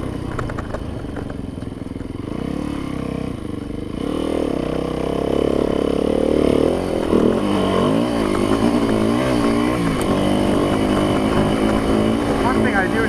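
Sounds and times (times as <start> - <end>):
dirt bike engine revving: 2.2 - 13.0.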